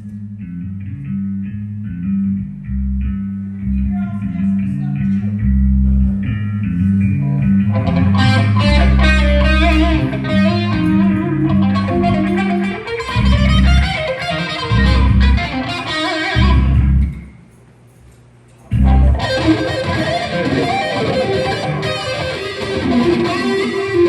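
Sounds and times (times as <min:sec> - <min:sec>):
distorted electric guitar: 0:00.0 - 0:17.5, 0:18.6 - 0:24.0
heavy bass guitar: 0:00.0 - 0:17.5, 0:18.6 - 0:24.0.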